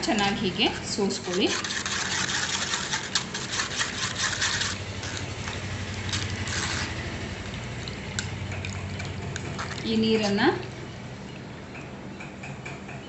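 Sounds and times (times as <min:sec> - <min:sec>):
spoon scraping pulp through strainer: 0:00.0 - 0:10.7.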